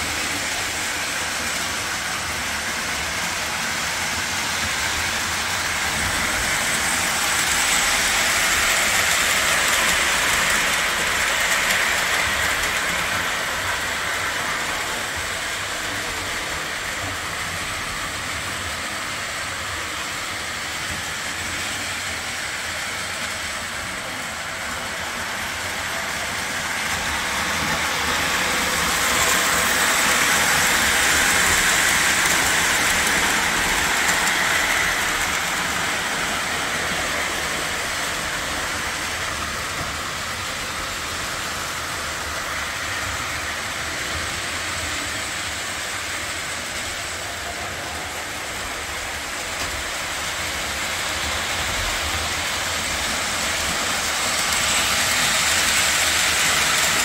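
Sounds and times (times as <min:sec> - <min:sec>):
toy train rumbling on track: 0:00.0 - 0:57.0.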